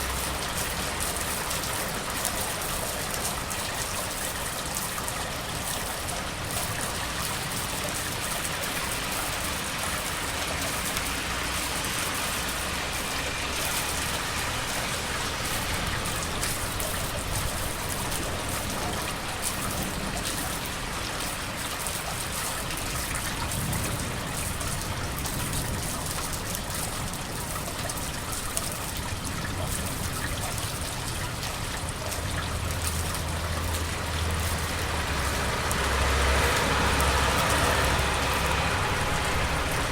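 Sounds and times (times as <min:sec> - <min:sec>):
rain falling: 0:00.0 - 0:39.9
road traffic rumble: 0:00.0 - 0:39.9
water trickling and splashing: 0:00.0 - 0:39.9.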